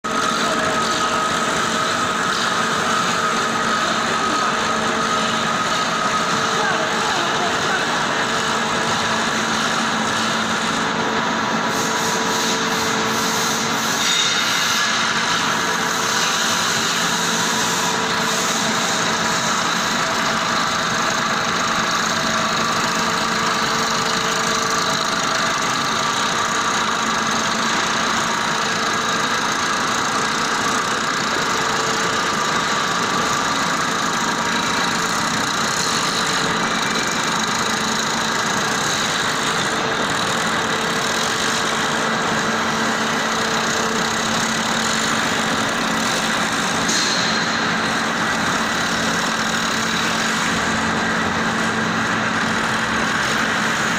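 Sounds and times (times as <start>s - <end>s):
excavator motor humming: 0.1s - 53.9s.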